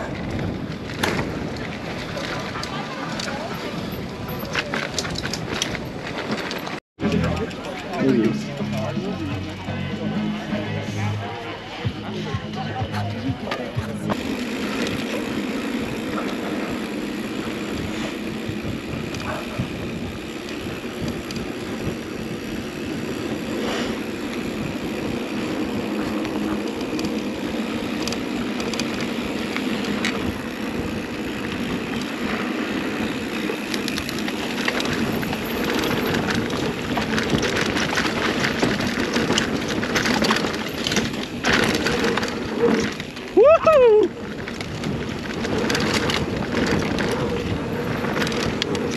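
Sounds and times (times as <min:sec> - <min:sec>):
bike knocks and rattles: 0:00.0 - 0:09.2, 0:12.8 - 0:48.9
bike drivetrain chatter: 0:00.0 - 0:48.9
bike tyres on dirt: 0:00.0 - 0:48.9.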